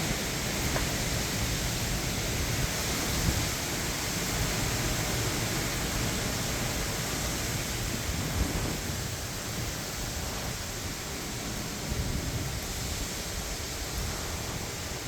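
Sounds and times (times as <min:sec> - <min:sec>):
heavy rain hiss: 0:00.0 - 0:15.0
wind gusts buffeting microphone: 0:00.0 - 0:15.0.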